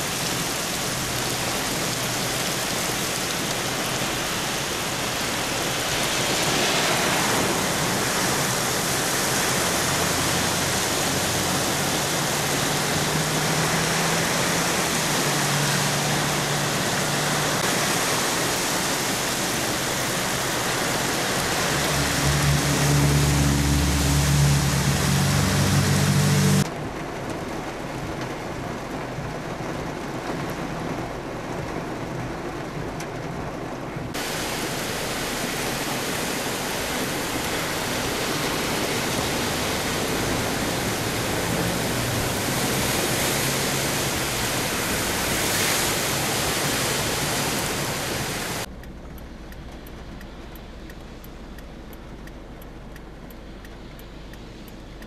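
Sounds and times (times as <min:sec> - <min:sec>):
heavy rain: 0:00.0 - 0:55.0
low engine hum: 0:00.0 - 0:55.0.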